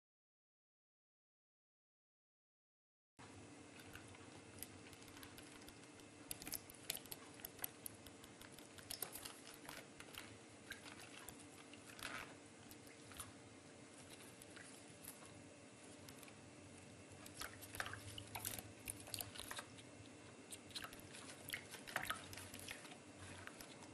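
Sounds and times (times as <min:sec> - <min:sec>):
faint steady hum: 0:03.2 - 0:23.9.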